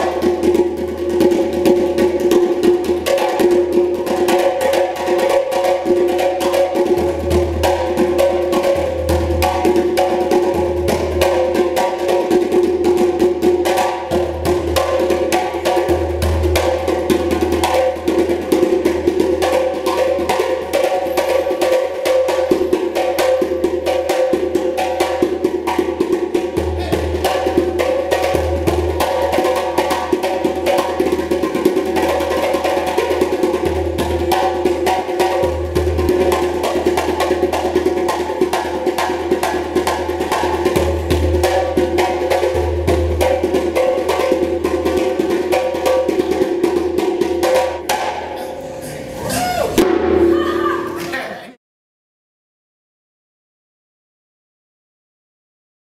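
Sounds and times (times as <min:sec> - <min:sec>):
fast hand drumming: 0:00.0 - 0:48.4.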